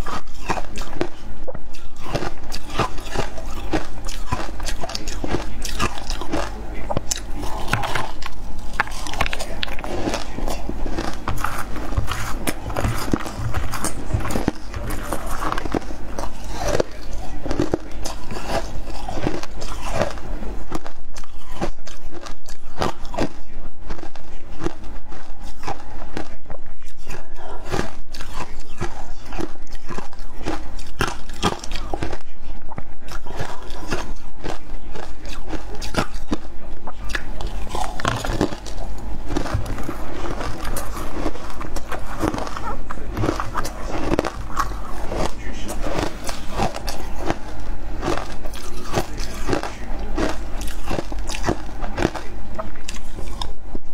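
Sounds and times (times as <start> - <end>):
ice being crunched and chewed: 0.0 - 53.6.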